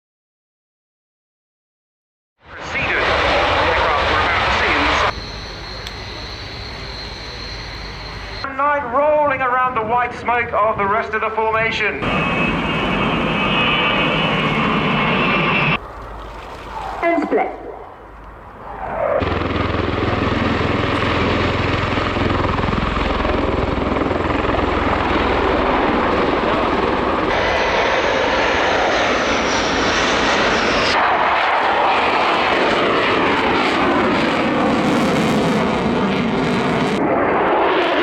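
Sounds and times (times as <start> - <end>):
aircraft flying past overhead: 2.6 - 8.4, 12.0 - 17.1, 17.8 - 38.0.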